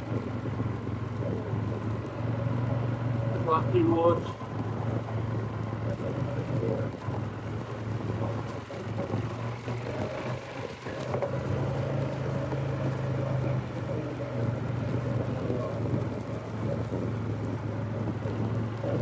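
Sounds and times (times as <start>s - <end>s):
atv engine droning: 0.0s - 19.0s.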